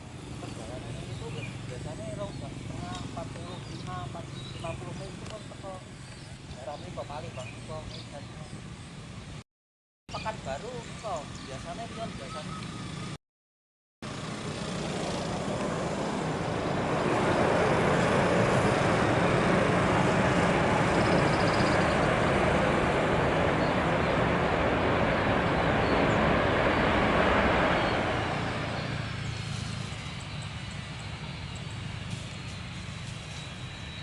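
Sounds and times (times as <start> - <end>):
jet engines passing: 0.0 - 9.4, 10.1 - 13.2, 14.0 - 34.0.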